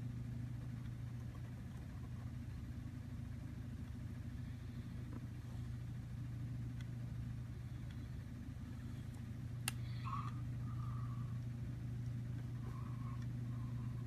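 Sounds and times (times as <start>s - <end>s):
appliance or fan humming: 0.0s - 14.0s.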